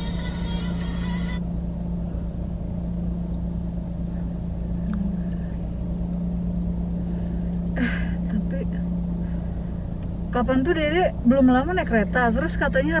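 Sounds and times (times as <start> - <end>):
car engine droning inside cabin: 0.0 - 13.0.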